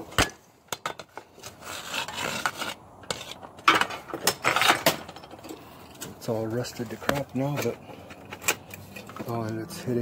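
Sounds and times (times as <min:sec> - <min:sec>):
rough scraping and rubbing: 0:01.1 - 0:10.0.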